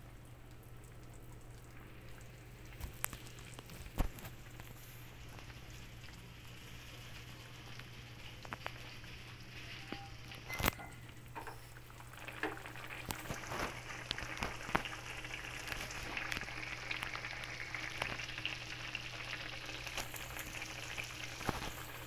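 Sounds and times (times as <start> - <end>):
sauce bubbling in a wok: 0.0 - 22.0.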